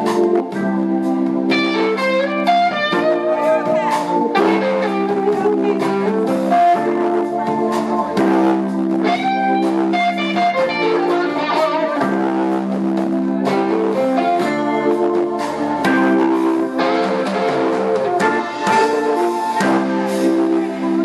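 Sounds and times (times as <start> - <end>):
electric guitar bent notes: 0.0 - 21.0
live blues band playing: 0.0 - 21.0.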